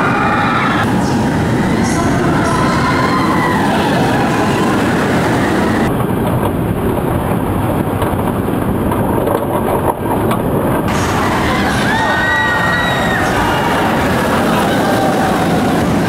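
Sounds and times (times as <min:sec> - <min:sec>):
roller coaster rushing on track: 0:00.0 - 0:16.0.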